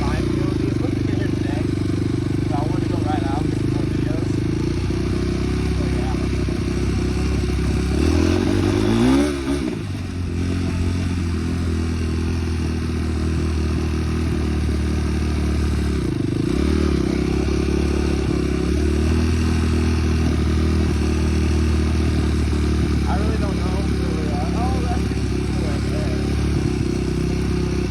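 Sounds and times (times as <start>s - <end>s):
off-road vehicle engine revving: 0.0s - 27.9s.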